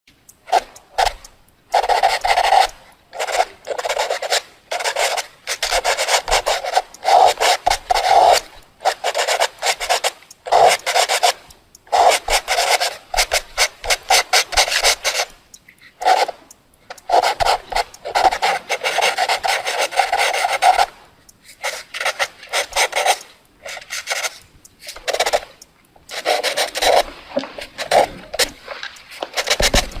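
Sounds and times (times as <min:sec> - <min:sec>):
drawing tool scratching paper: 0:00.5 - 0:15.4, 0:16.0 - 0:30.0.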